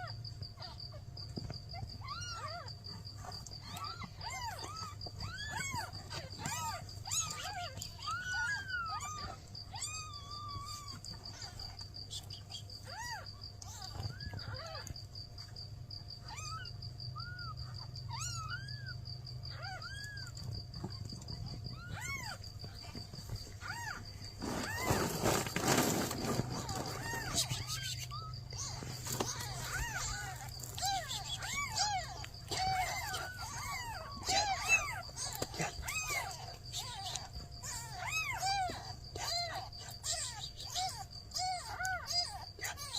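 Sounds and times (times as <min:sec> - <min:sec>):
cricket chirping: 0:00.0 - 0:42.9
kittens mewing: 0:00.0 - 0:42.9.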